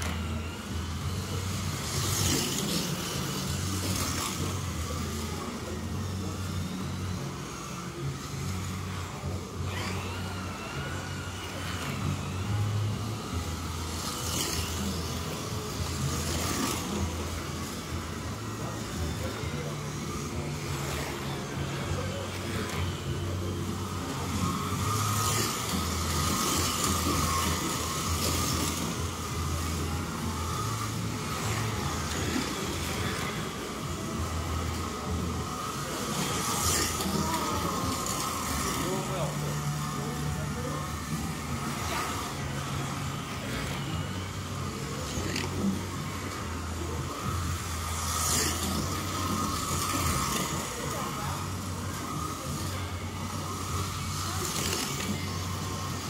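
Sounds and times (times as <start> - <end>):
slot car electric motors whining: 0.0 - 56.0.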